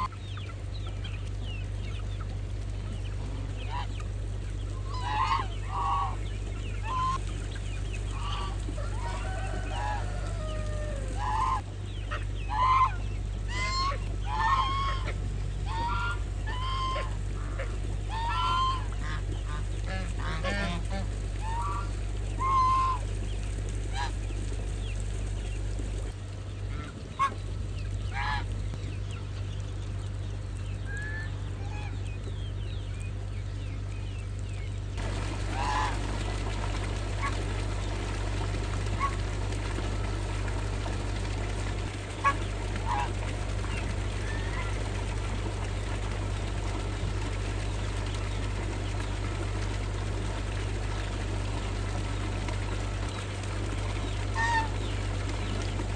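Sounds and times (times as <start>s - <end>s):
geese honking: 0.0s - 2.3s, 2.9s - 28.8s, 35.0s - 55.9s
steady low hum: 0.0s - 55.9s.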